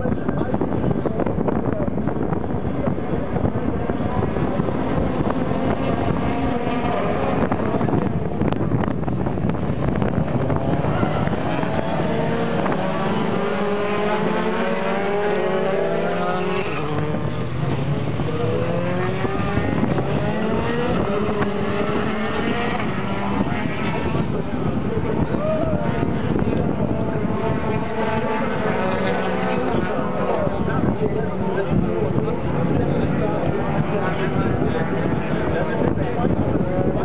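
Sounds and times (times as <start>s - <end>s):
racing car engines passing: 0.0s - 37.0s.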